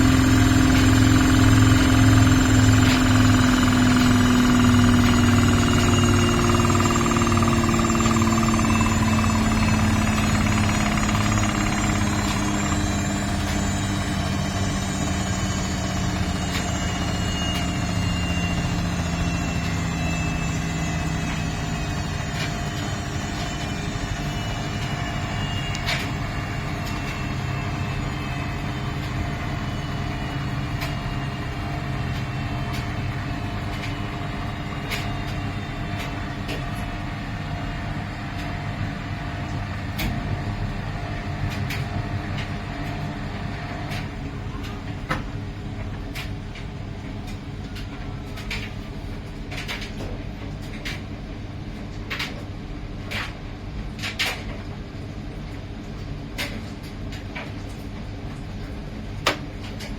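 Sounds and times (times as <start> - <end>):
steady hum: 0.0 - 49.7
washing machine running down: 0.0 - 59.9.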